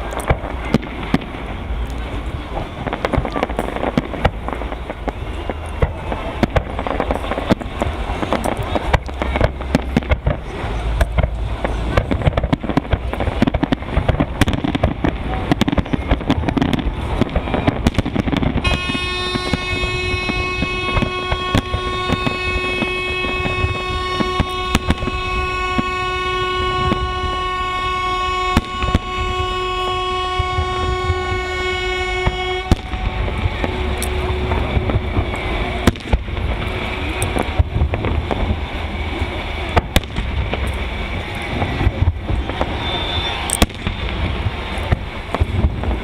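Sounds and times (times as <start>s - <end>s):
fireworks bangs: 0.0s - 46.0s
long steady horn blast: 0.0s - 46.0s
rumble and crackle: 0.0s - 46.0s.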